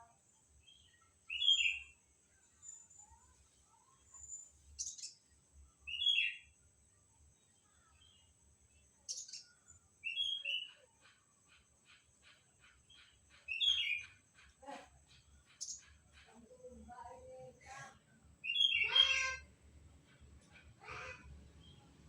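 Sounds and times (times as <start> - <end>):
bird chirping: 0.0 - 17.4, 18.2 - 22.0.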